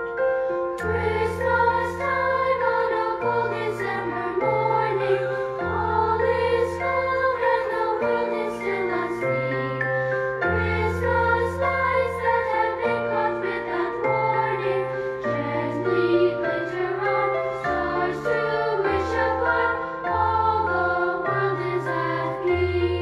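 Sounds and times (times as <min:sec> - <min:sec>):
choir singing: 0:00.7 - 0:23.0.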